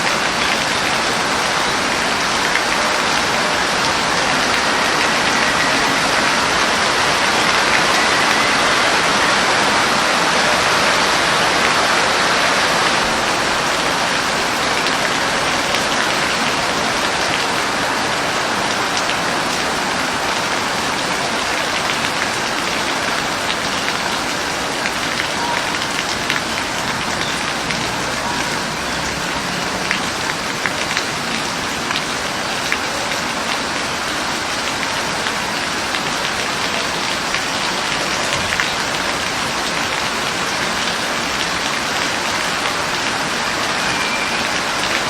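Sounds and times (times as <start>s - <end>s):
rain on a hard surface: 0.0s - 45.0s.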